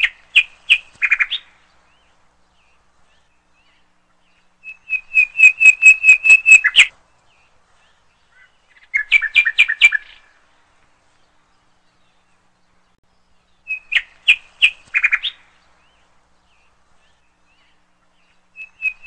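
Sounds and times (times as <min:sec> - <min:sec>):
bird chirping in quick runs: 0:00.0 - 0:10.2, 0:11.2 - 0:19.0.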